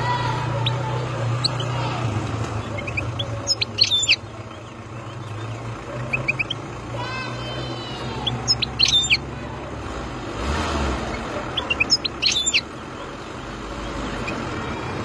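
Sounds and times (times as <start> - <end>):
bird twittering: 0.5 - 9.3, 11.0 - 14.8.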